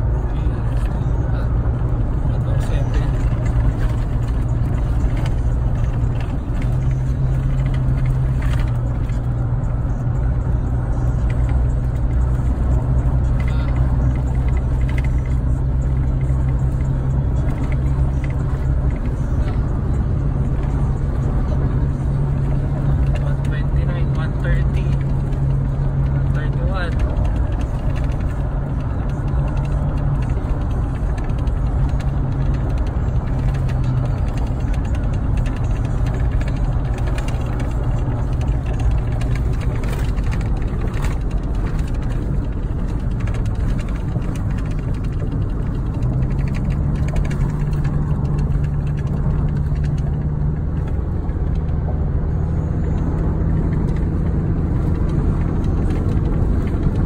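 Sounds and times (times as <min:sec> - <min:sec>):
low exhaust drone: 0:00.0 - 0:57.0
road noise: 0:00.0 - 0:57.0.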